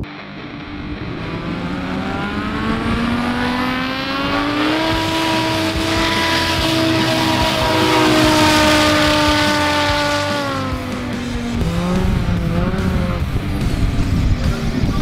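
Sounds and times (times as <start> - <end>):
propeller plane engine at full power: 0.0 - 15.0.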